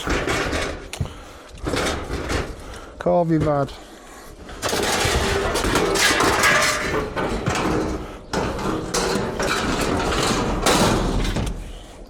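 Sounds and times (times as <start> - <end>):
scrap metal clattering: 0.0 - 12.0.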